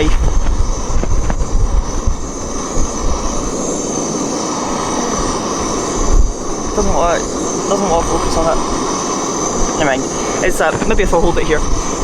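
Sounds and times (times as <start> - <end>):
strong wind roaring: 0.0 - 12.0
wind buffeting microphone: 0.0 - 12.0.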